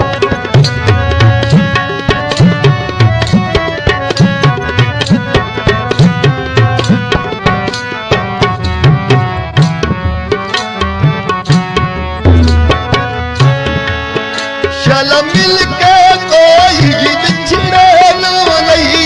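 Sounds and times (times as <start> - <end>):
harmonium notes: 0.0 - 19.0
tabla played fast: 0.0 - 19.0.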